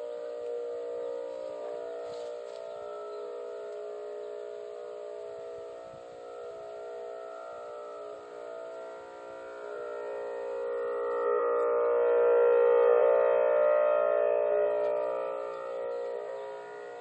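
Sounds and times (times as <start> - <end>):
drone of steady tones: 0.0 - 17.0.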